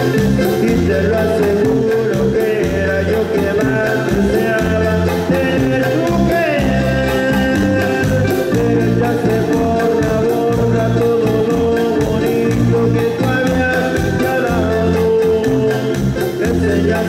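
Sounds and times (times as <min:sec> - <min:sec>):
latin dance music from a band: 0:00.0 - 0:17.0.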